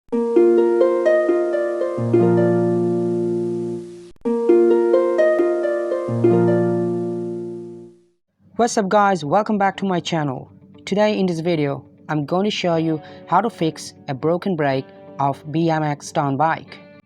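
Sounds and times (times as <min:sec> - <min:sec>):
plucked string intro music: 0:00.1 - 0:08.1, 0:09.7 - 0:17.0.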